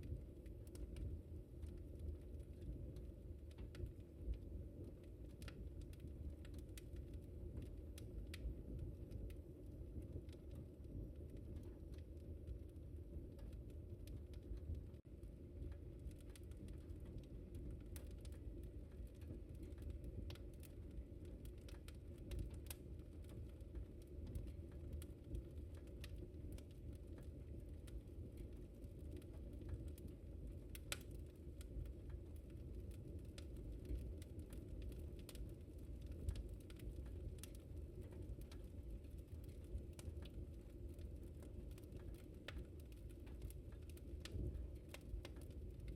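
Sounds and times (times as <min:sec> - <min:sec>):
low rumble of flames: 0:00.0 - 0:45.9
wood fire crackles and pops: 0:00.0 - 0:45.9.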